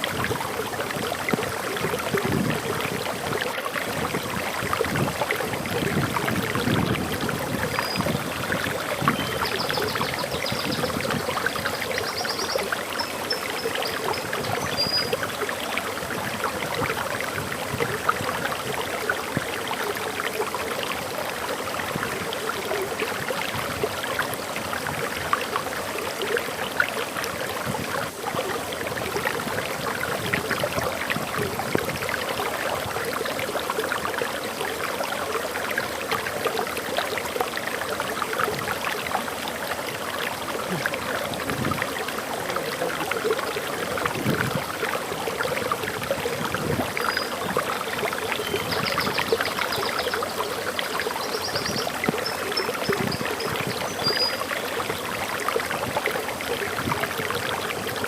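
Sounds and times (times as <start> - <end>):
waterfall pouring and splashing: 0.0 - 58.0.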